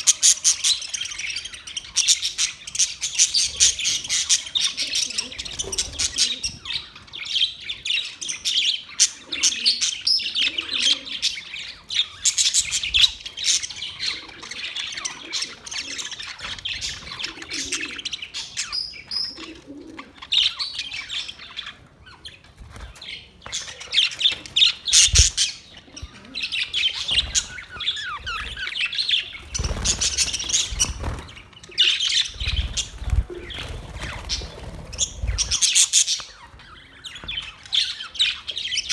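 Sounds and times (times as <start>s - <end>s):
parrots chirping and squawking: 0.0s - 38.9s.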